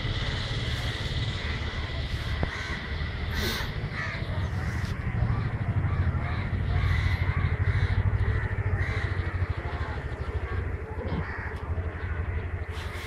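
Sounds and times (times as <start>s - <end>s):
steady low rumble: 0.0s - 13.0s
crows cawing: 0.7s - 13.0s.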